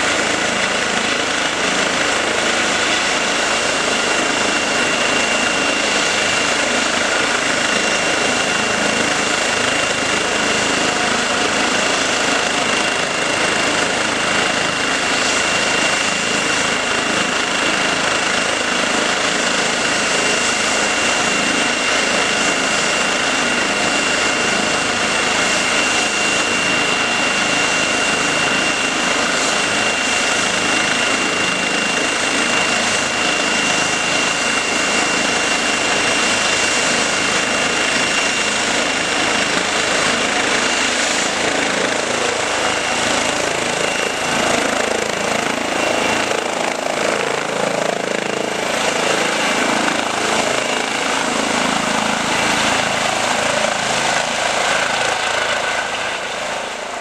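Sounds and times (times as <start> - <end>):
helicopter rotor chop: 0.0 - 57.0
helicopter turbine whine: 0.0 - 57.0.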